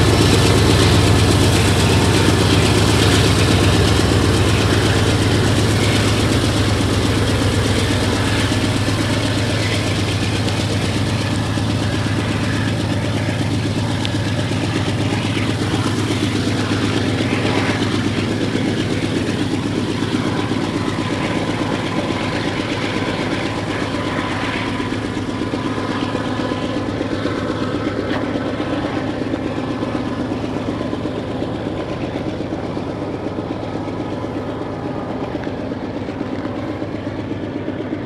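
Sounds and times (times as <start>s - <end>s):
diesel locomotive engine running: 0.0s - 38.0s.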